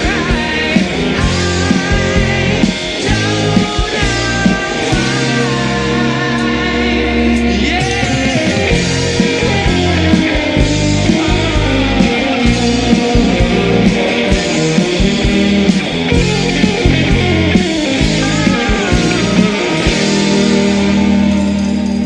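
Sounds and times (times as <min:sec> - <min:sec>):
bass guitar: 0:00.0 - 0:22.0
drum kit beat: 0:00.0 - 0:22.0
guitar: 0:00.0 - 0:22.0.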